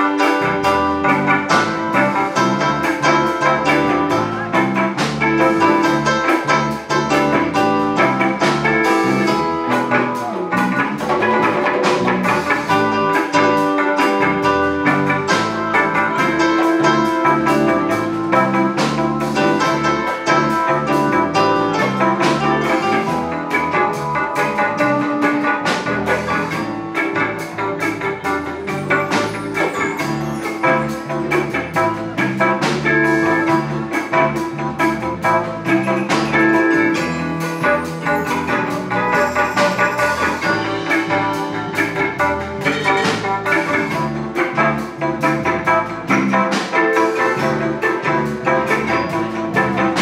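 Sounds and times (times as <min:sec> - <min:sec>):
jazz band playing: 0:00.0 - 0:50.0.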